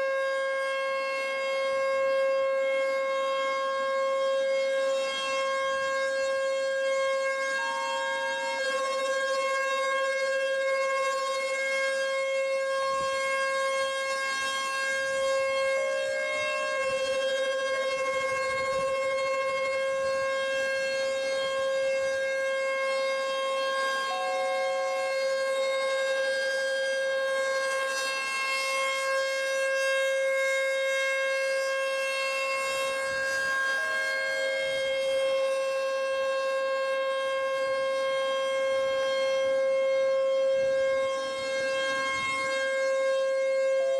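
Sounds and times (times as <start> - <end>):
siren steady tone: 0.0 - 43.9.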